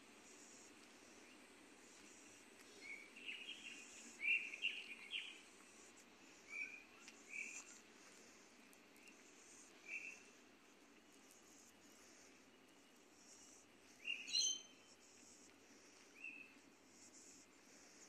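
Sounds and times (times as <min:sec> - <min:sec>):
birds chirping: 0:00.0 - 0:18.0
faint steady hiss: 0:00.0 - 0:18.0.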